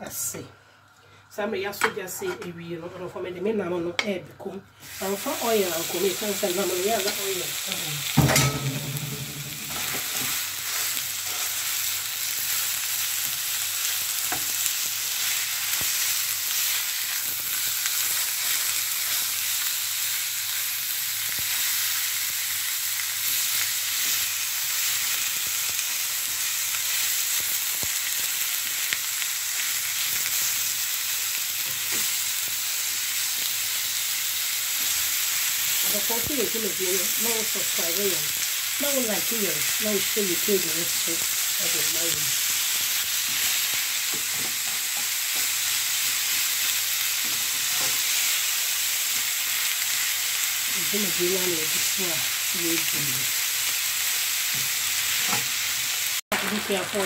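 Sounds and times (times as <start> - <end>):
meat sizzling in a frying pan: 4.8 - 57.0.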